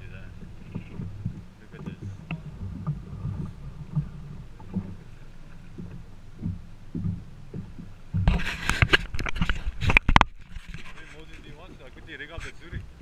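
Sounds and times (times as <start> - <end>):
water lapping against boat hull: 0.0 - 13.0
soft knocks: 0.2 - 12.9.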